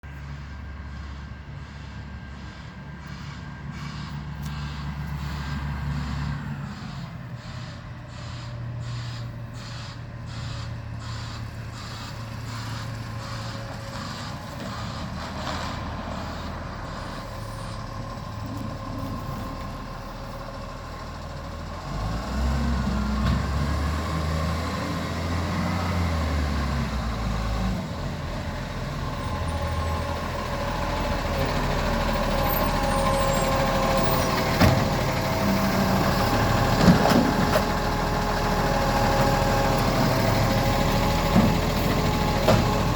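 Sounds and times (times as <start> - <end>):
garbage truck diesel engine: 0.0 - 42.9.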